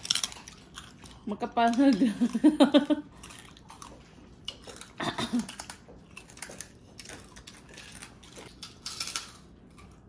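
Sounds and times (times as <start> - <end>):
crunchy food being chewed: 0.0 - 10.0.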